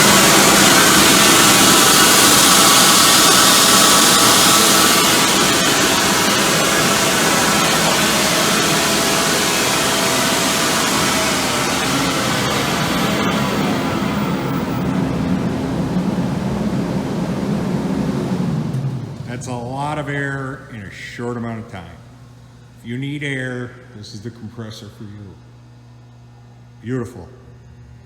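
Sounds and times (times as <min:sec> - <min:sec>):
air compressor running: 0:00.0 - 0:22.8.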